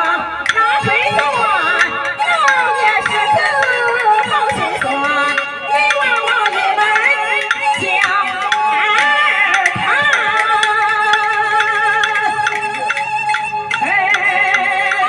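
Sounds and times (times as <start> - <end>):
woman singing opera: 0.0 - 12.3, 13.8 - 15.0
instrumental accompaniment: 0.0 - 15.0.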